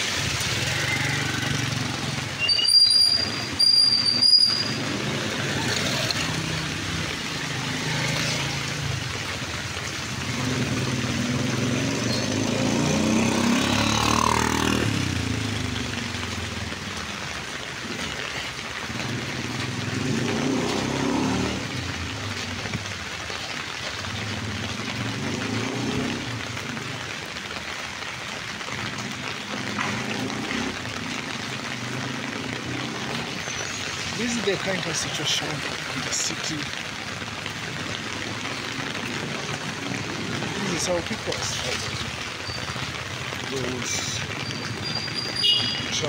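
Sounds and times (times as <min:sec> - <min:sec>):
vehicles driving past: 0:00.0 - 0:46.0.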